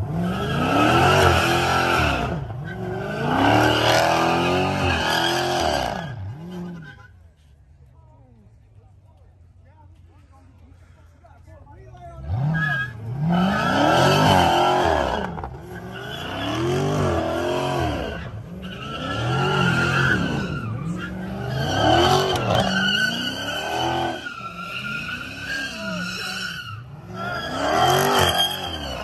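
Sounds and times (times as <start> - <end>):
car engine revving: 0.0 - 6.8, 12.2 - 29.0
tyres squealing on pavement: 0.3 - 7.4, 12.2 - 29.0.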